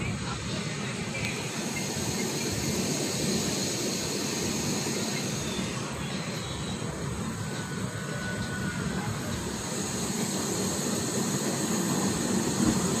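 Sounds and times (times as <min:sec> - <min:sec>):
air rushing past train coach: 0:00.0 - 0:13.0
train wheels rumbling on rails: 0:00.0 - 0:13.0.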